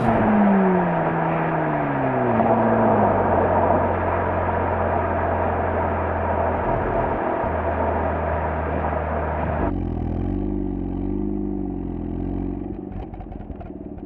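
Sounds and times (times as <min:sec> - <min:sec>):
rotary engine exhaust drone: 0:00.0 - 0:14.0.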